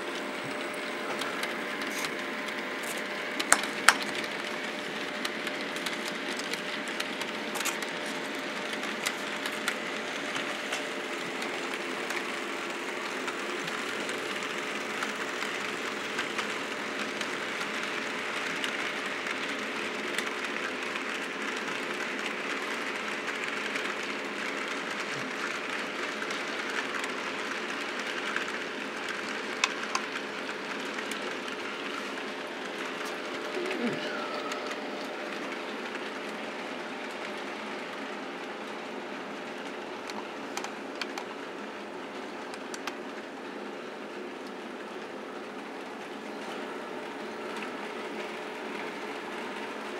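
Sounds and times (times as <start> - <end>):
model train hum and rattle: 0.0 - 49.9.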